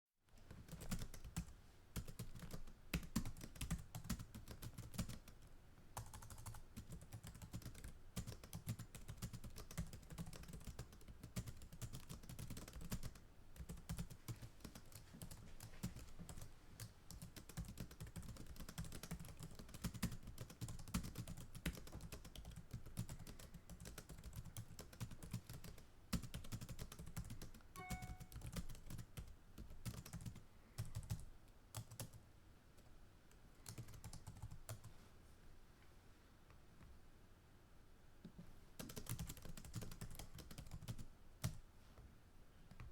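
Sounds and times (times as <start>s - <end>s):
fast keyboard typing: 0.4s - 5.4s, 6.0s - 32.2s, 33.6s - 34.9s, 38.8s - 41.6s.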